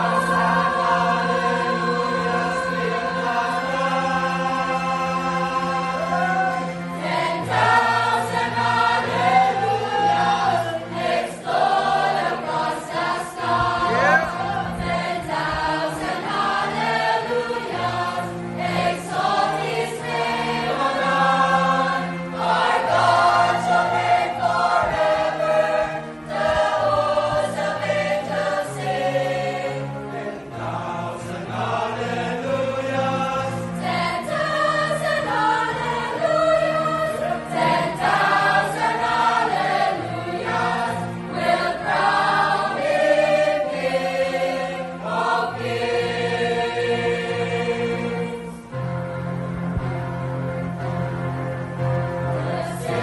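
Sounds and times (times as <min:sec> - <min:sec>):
mixed choir singing worship song: 0:00.0 - 0:53.0.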